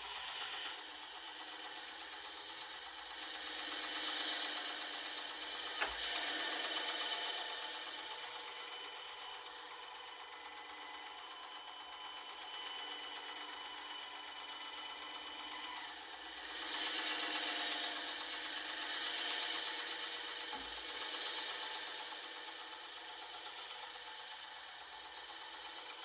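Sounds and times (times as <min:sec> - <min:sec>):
bandsaw cutting wood: 0:00.0 - 0:11.2, 0:12.5 - 0:22.6.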